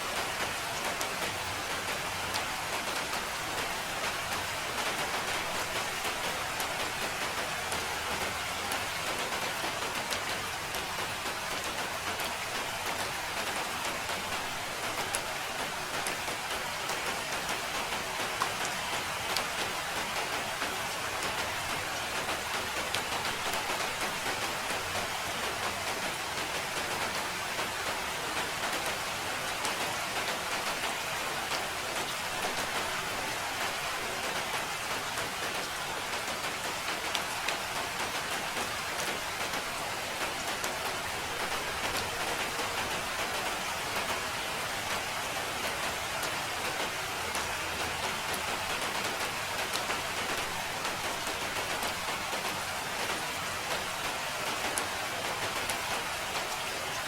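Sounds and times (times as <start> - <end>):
raindrops ticking on a surface: 0.0 - 57.0
steady rain hiss: 0.0 - 57.0.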